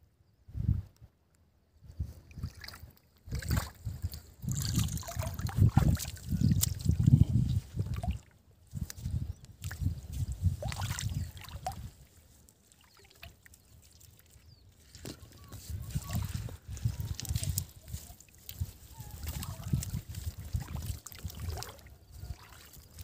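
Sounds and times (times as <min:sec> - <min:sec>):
muddy water splashing: 0:02.2 - 0:23.0.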